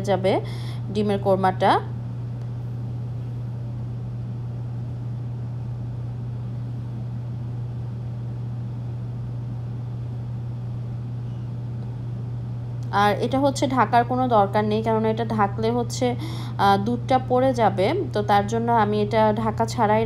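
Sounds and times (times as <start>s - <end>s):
low-pitched hum: 0.0s - 20.0s.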